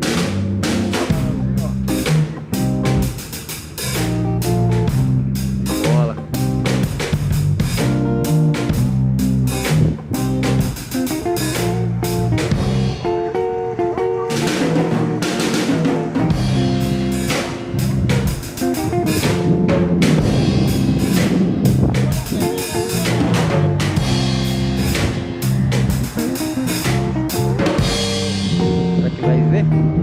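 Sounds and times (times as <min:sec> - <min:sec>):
background music with drum beat: 0:00.0 - 0:29.8
guitar: 0:00.0 - 0:30.0.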